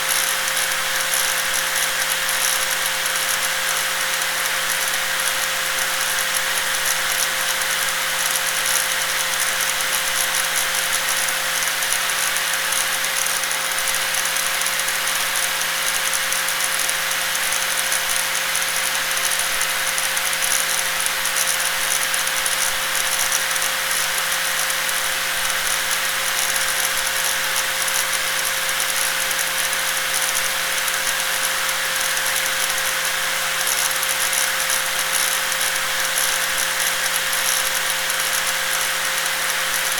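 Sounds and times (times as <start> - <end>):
electric angle grinder running: 0.1 - 39.9.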